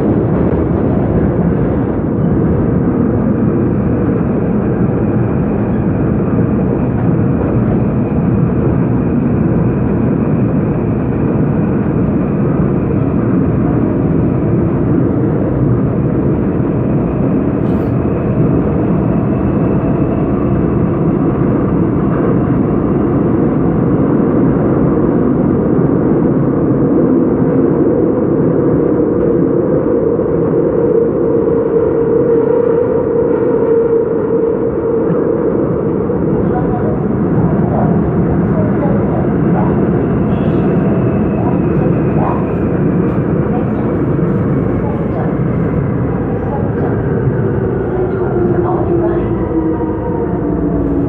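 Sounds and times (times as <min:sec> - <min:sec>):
train wheels rumbling: 0:00.0 - 0:26.2, 0:34.9 - 0:51.0.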